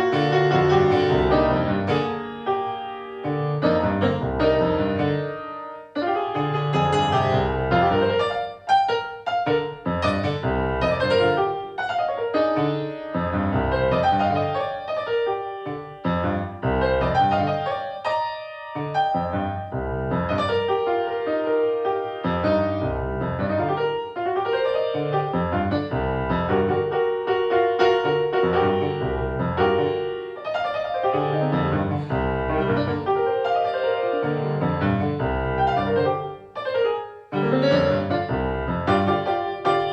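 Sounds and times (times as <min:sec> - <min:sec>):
piano-led instrumental music: 0:00.0 - 0:39.9.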